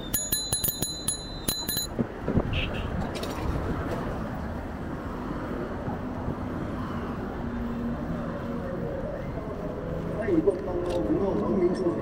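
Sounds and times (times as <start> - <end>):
busy road traffic: 0.0 - 12.0.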